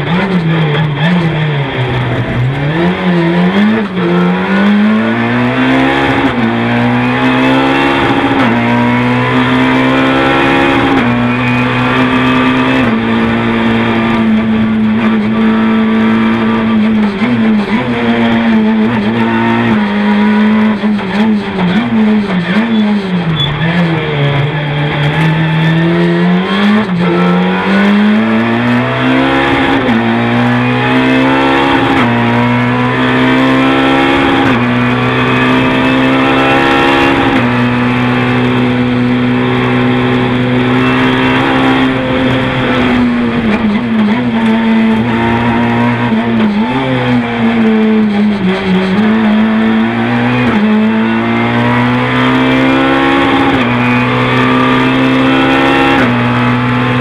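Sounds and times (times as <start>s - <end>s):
rally car engine revving through gears: 0.0s - 57.0s.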